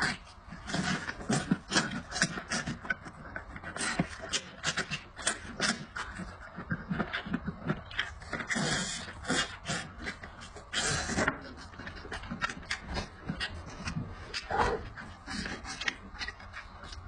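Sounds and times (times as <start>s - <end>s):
gnawing meat off bone clicks: 0.0s - 17.0s
wet chewing and smacking: 0.0s - 17.0s.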